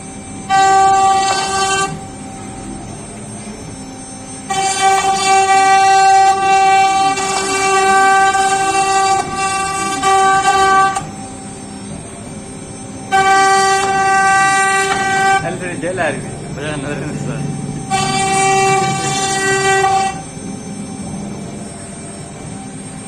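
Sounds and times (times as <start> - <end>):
router spindle high whine: 0.0 - 23.0.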